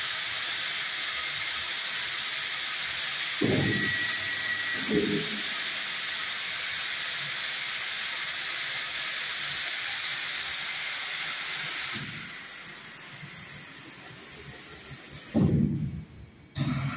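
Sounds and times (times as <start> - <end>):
steam press hissing: 0.0 - 16.9.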